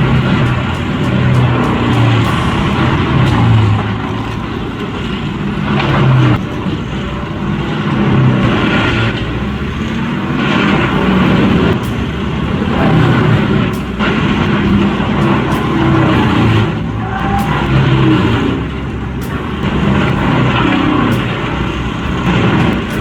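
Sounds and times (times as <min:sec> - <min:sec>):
large engine running rough: 0:00.0 - 0:23.0.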